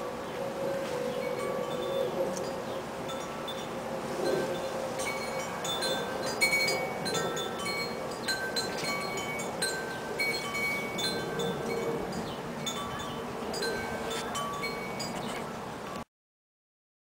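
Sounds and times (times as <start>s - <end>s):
wind chimes ringing: 1.2s - 16.0s.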